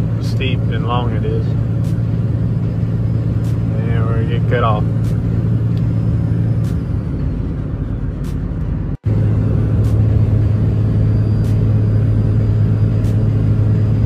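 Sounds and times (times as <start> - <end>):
diesel engine drone: 0.0 - 14.0
road noise: 0.0 - 14.0.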